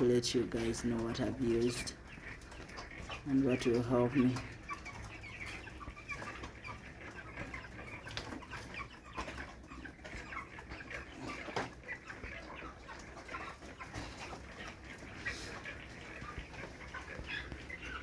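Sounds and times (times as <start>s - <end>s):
chickens chirping and calling: 0.0s - 18.0s.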